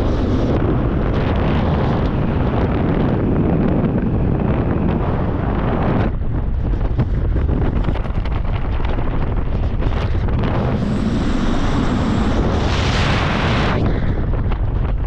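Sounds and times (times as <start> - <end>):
hissing rush of wind: 0.0 - 15.0
wind buffeting microphone: 0.0 - 15.0.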